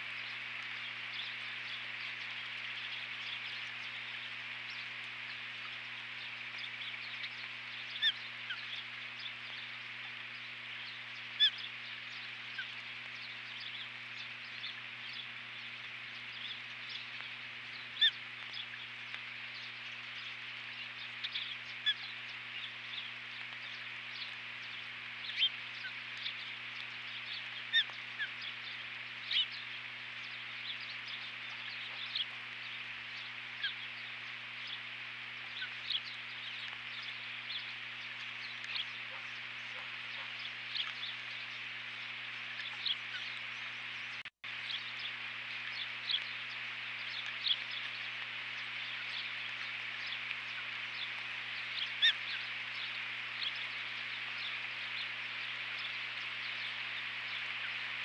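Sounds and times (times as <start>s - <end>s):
low electrical hum: 0.0s - 58.0s
steady hiss: 0.0s - 58.0s.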